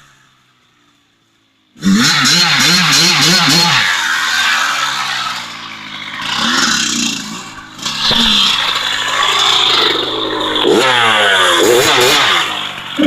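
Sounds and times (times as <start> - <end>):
off-road vehicle engine revving: 1.7 - 13.0.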